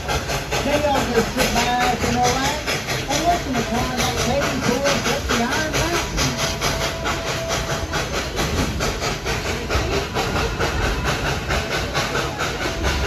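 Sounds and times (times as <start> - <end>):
rumble of train coaches: 0.0 - 13.0
steam locomotive chuffing: 0.0 - 13.0.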